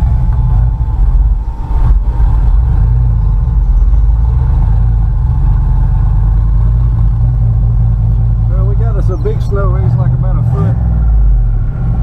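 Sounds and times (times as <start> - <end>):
car engine running on snow: 0.0 - 12.0.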